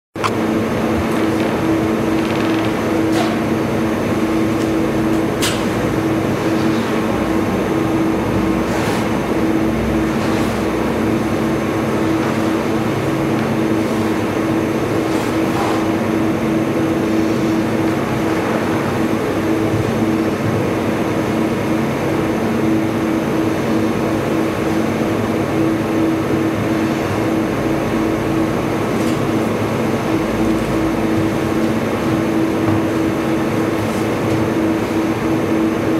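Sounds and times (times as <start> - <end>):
mechanical hum: 0.2 - 35.9.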